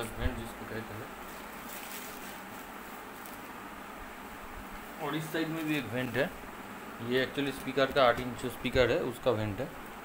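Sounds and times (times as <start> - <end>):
low room tone hiss: 0.0 - 10.0.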